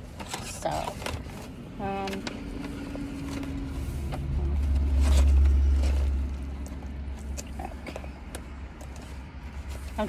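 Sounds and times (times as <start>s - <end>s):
vehicle rumble from inside a car: 0.0s - 10.0s.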